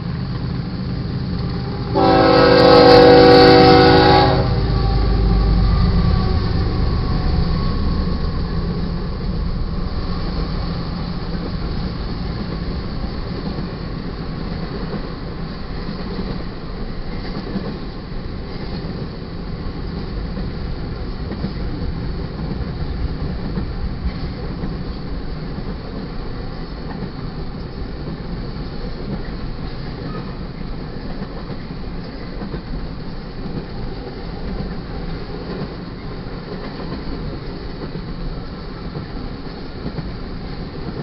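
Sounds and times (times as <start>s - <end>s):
diesel locomotive engine rumble: 0.0s - 41.0s.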